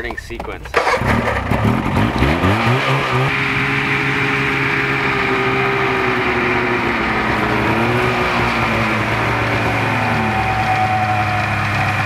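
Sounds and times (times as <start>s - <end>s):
snowmobile engines revving: 0.8s - 12.0s.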